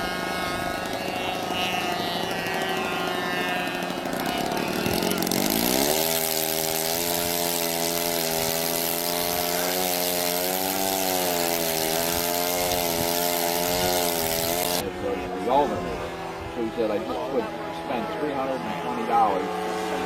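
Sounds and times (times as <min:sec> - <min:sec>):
model aircraft engine revving: 0:00.0 - 0:20.0.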